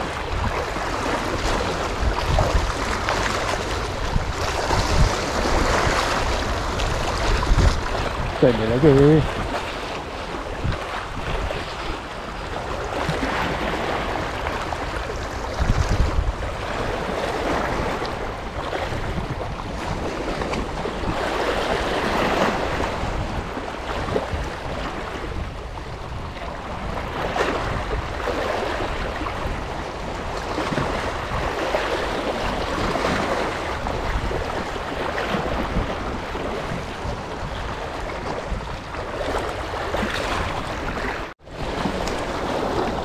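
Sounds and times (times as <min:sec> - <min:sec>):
sea waves washing: 0:00.0 - 0:43.0
wind noise on microphone: 0:00.0 - 0:43.0.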